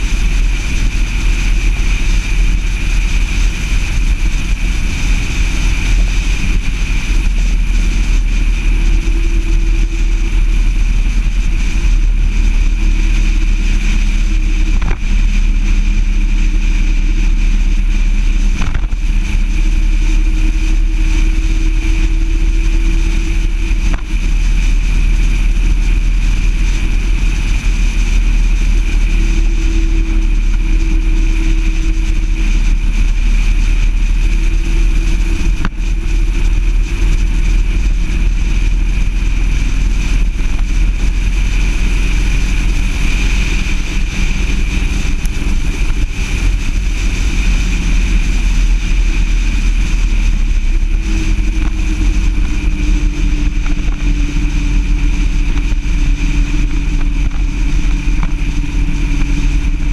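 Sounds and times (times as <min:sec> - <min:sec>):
car engine and tyre noise: 0:00.0 - 0:59.9
wind rumble on microphone: 0:00.0 - 0:59.9.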